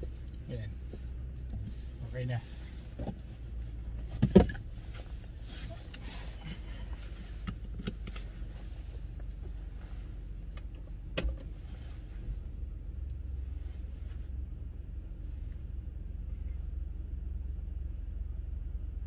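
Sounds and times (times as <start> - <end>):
car idling rumble: 0.0 - 19.0.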